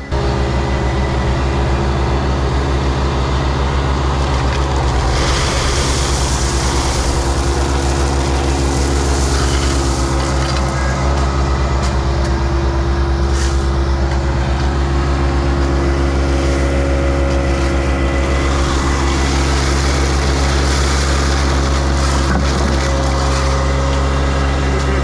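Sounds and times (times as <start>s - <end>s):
heavy equipment engine running: 0.0s - 25.0s.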